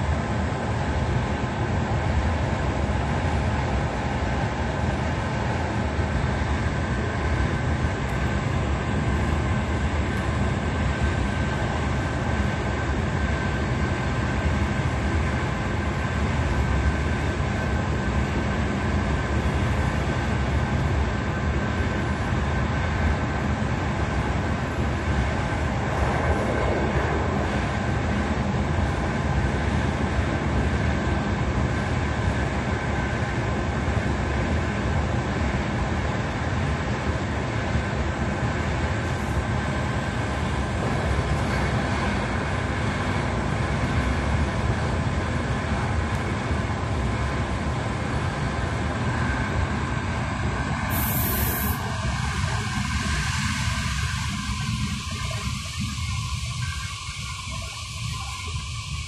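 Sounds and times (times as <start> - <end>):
faint steady whine: 0.0 - 59.0
train wheels rumbling on track: 0.0 - 59.0.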